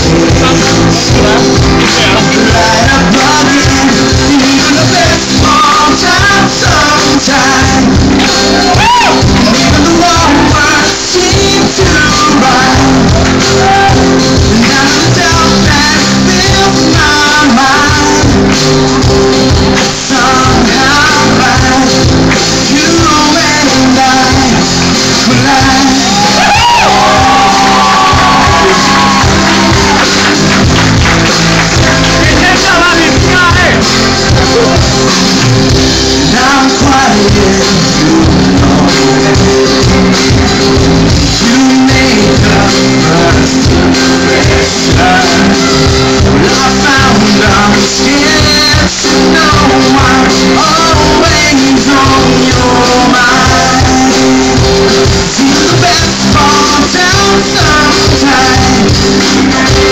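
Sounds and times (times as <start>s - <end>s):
lead vocalist singing: 0.0s - 59.9s
live rock band playing: 0.0s - 59.9s.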